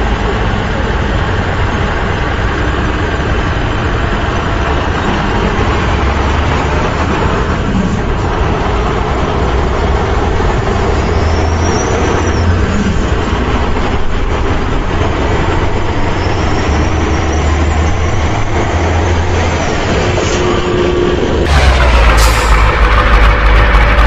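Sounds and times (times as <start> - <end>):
vehicle rumble and hiss: 0.0 - 24.0.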